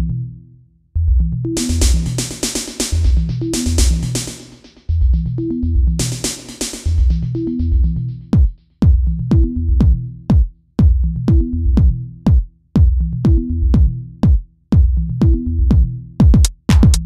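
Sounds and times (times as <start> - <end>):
deep synth bass line: 0.0 - 14.2, 14.8 - 16.2
punchy pitch-dropping kick drums: 1.0 - 17.0
drum machine beat: 1.6 - 17.0.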